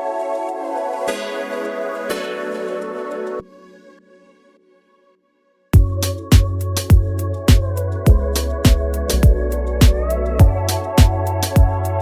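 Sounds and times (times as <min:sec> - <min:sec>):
electronic music with steady beat: 0:00.0 - 0:03.9, 0:05.8 - 0:12.0.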